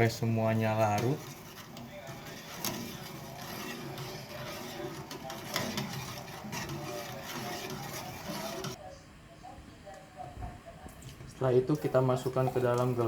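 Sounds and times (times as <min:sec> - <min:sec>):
pot boiling and bubbling: 0:00.0 - 0:13.0.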